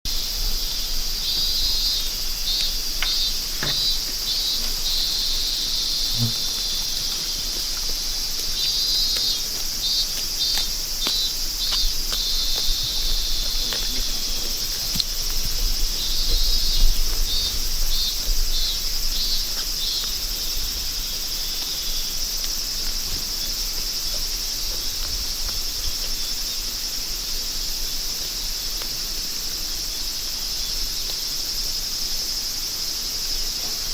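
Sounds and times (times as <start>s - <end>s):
insect chorus: 0.1s - 33.9s
pulsing insect call: 0.1s - 33.9s.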